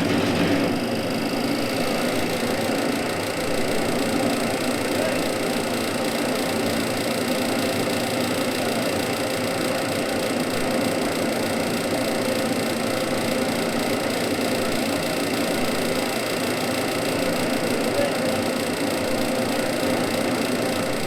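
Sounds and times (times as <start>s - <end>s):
honey extractor motor running: 0.0s - 21.0s.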